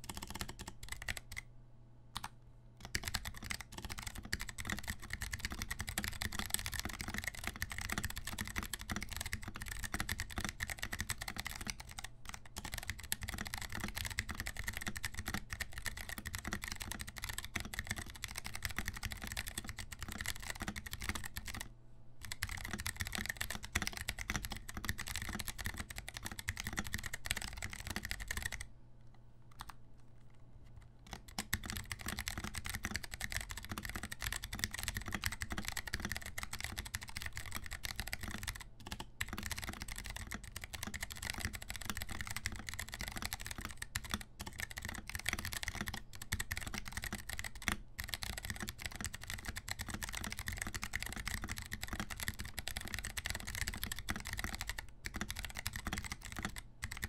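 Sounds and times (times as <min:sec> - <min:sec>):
fast typing on mechanical keyboard: 0:00.0 - 0:01.4, 0:02.2 - 0:28.7, 0:29.6 - 0:29.8, 0:31.0 - 0:57.0.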